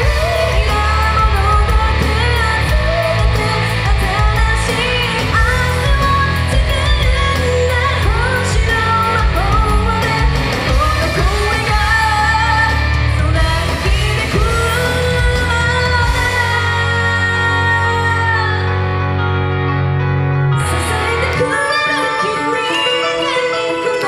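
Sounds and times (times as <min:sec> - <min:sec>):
woman singing into a microphone: 0:00.0 - 0:19.3, 0:20.6 - 0:24.0
pop backing track with bass: 0:00.0 - 0:24.0.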